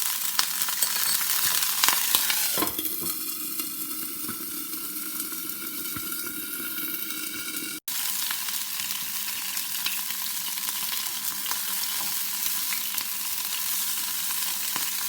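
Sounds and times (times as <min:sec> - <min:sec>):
egg sizzling in oil: 0:00.0 - 0:15.0.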